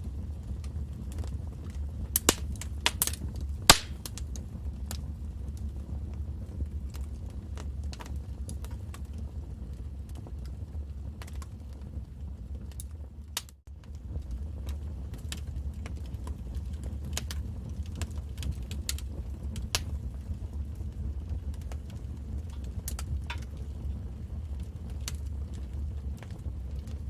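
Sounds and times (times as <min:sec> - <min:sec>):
low rumble of flames: 0:00.0 - 0:27.0
wood fire pops and snaps: 0:00.0 - 0:27.0.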